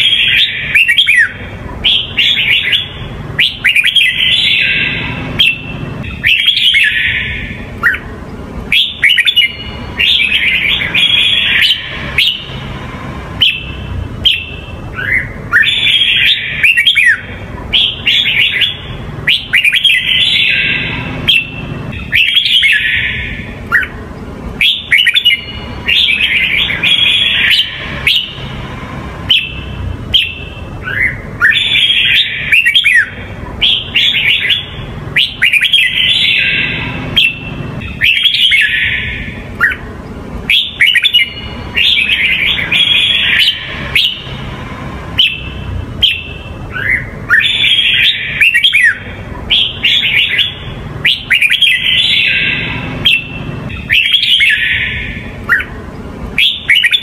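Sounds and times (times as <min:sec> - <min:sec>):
bird singing whistled notes: 0:00.0 - 0:08.1, 0:08.7 - 0:12.7, 0:13.3 - 0:24.0, 0:24.6 - 0:28.6, 0:29.2 - 0:39.9, 0:40.5 - 0:55.8, 0:56.4 - 0:57.0
low background hum: 0:00.0 - 0:57.0.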